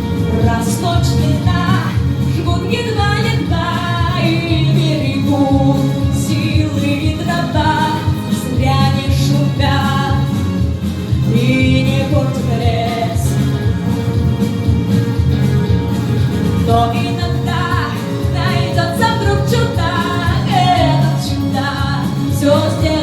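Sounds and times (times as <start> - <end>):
instrumental accompaniment with beat: 0.0 - 23.0
woman singing a pop song: 0.0 - 23.0.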